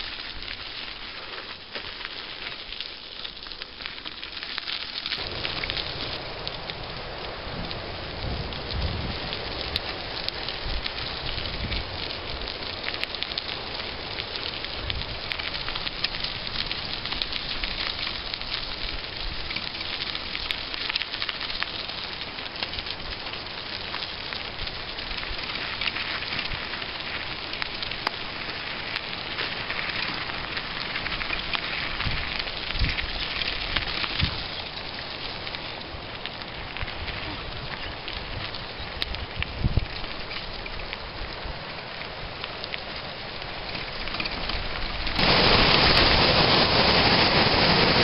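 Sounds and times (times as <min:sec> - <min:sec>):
bicycle tyres crunching on gravel: 0:00.0 - 0:48.0.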